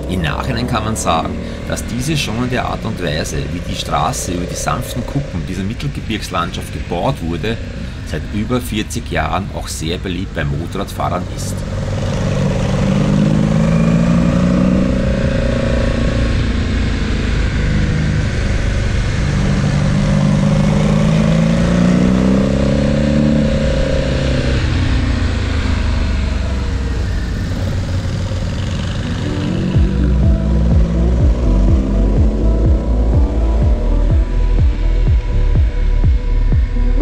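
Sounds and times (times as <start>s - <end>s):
motorcycle engine revving: 0.0s - 37.0s
steady rushing noise: 0.0s - 37.0s.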